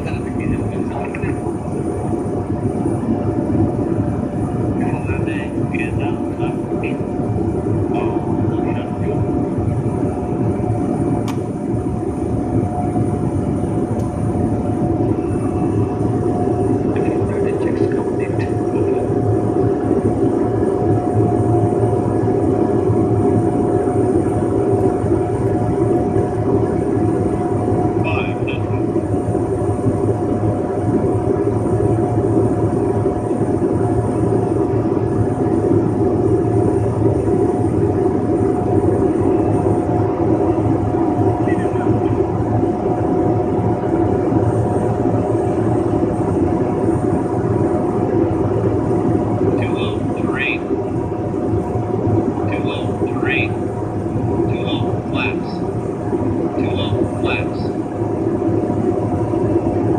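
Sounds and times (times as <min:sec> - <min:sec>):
airplane propeller engine drone: 0:00.0 - 0:59.9.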